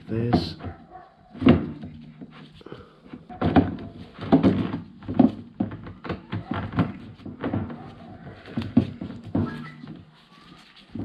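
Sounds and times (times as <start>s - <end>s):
knocks and clunks of fuel pump: 0.0s - 10.1s.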